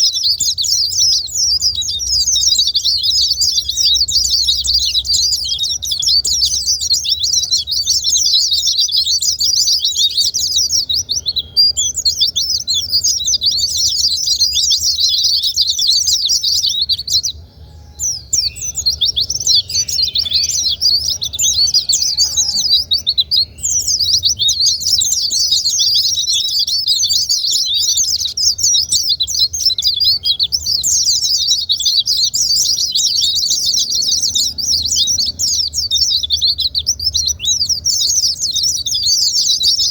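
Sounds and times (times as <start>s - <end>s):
bird twittering warble: 0.0s - 39.9s.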